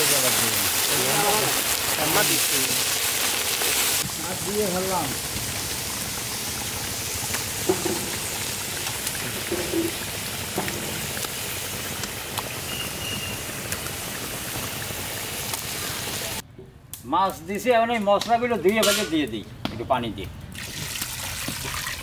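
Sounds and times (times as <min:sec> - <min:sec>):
fish frying in hot oil: 0:00.0 - 0:16.4, 0:20.6 - 0:22.0.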